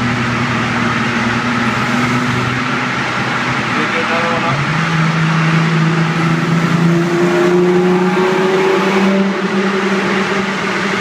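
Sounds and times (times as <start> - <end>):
car engine accelerating: 0.0 - 11.0
road noise echoing in tunnel: 0.0 - 11.0.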